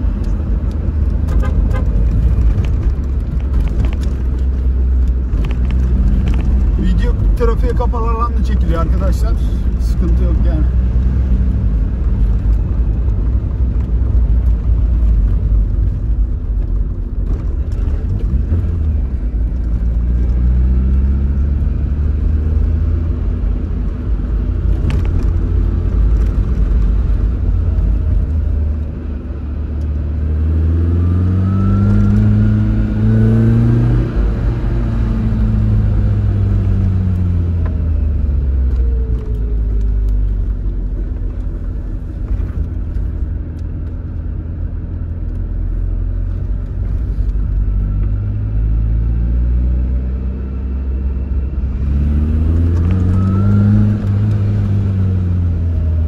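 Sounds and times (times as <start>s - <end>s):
car engine revving: 0.0s - 45.4s, 46.0s - 56.0s.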